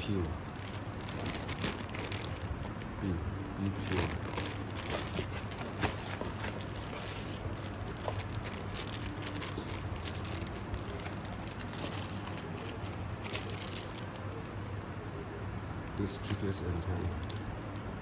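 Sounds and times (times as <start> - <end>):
plastic rustling and crinkling: 0.0 - 14.5, 16.0 - 17.8
steady low hum: 0.0 - 18.0.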